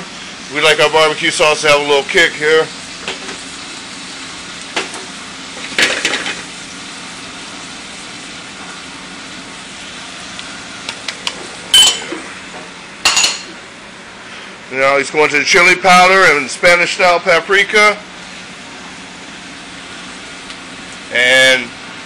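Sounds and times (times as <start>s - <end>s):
onions sizzling in a saucepan: 0.0s - 13.6s, 15.8s - 21.9s.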